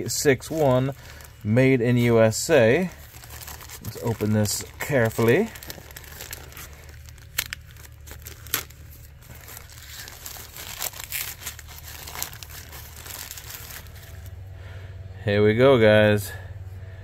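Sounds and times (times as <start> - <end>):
plastic bag tearing and crinkling: 0.0 - 14.3.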